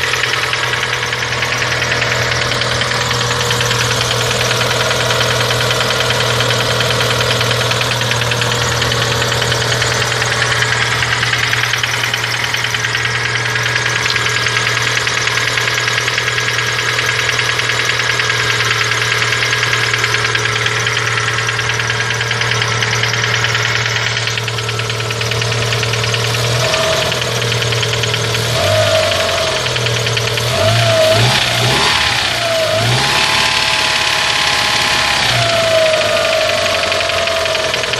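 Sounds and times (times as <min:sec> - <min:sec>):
car engine idling: 0:00.0 - 0:37.9
fast even engine ticking: 0:00.0 - 0:37.9.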